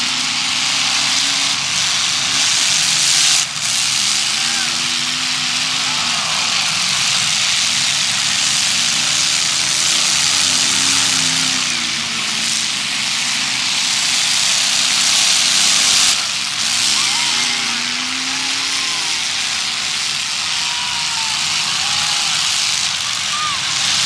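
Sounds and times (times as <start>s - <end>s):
car engines revving: 0.0s - 24.0s
loud steady rushing noise: 0.0s - 24.0s.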